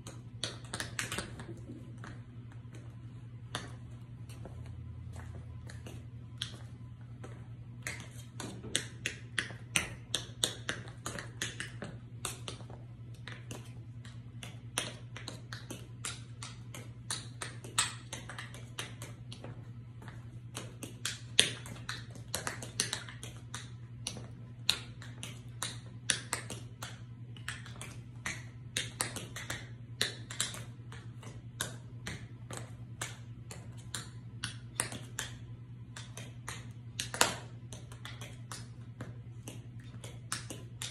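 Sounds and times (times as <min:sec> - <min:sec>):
steady low hum: 0:00.0 - 0:40.9
tap shoes clicking on tiled floor: 0:00.0 - 0:40.9.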